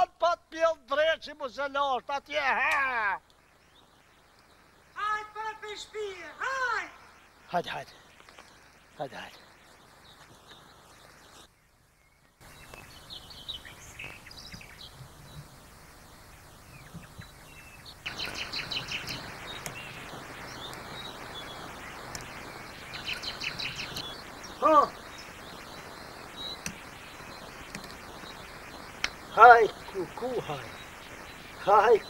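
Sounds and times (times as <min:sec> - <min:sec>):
small birds chirping: 0:00.0 - 0:32.0
steady background hiss: 0:00.0 - 0:32.0.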